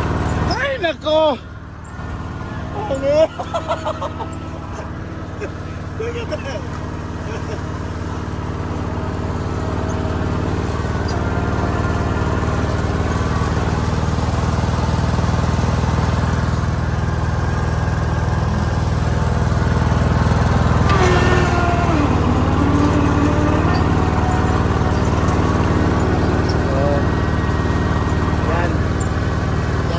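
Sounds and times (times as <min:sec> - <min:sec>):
ride-on lawn mower engine: 0:00.0 - 0:29.9.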